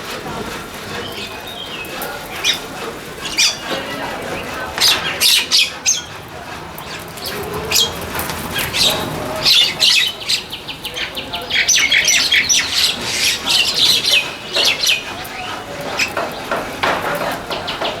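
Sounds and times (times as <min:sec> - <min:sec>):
birds chirping and squawking: 0:00.0 - 0:18.0
wings flapping: 0:00.0 - 0:18.0.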